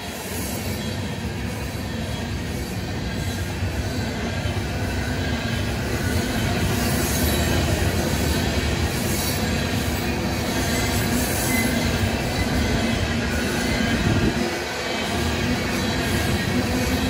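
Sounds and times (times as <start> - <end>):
high wheel squeal: 0.0 - 17.0
train wheels rumbling on rail: 0.0 - 17.0.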